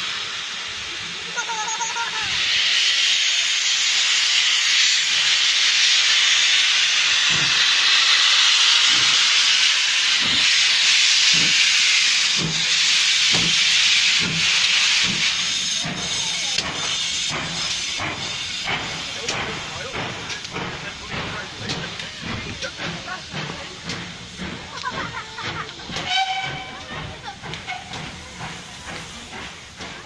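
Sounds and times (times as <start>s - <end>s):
steam hissing from locomotive: 0.0s - 30.0s
deep locomotive exhaust beats: 2.1s - 30.0s.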